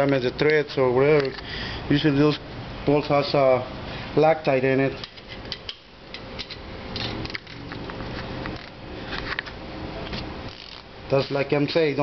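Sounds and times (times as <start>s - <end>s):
low steady background hum: 0.0s - 12.0s.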